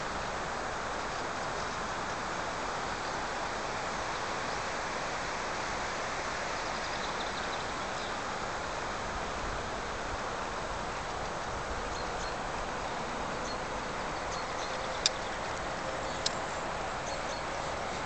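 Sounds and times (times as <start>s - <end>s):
steady outdoor rushing noise: 0.1s - 18.0s.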